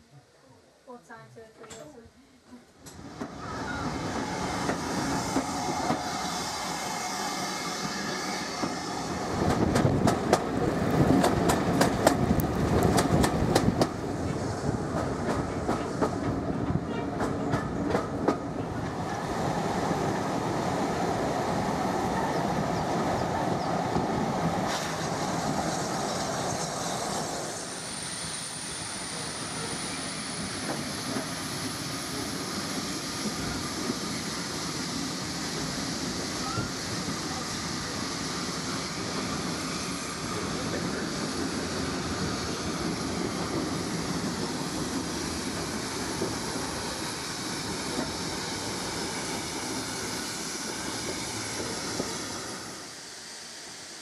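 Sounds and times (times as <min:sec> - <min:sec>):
train carriage rumbling: 0:01.5 - 0:53.9.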